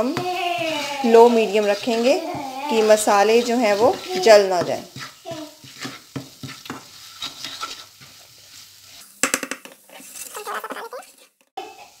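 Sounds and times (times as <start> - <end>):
faint sizzle of frying spices: 0.0 - 12.0
spatula scraping a pan: 0.0 - 12.0.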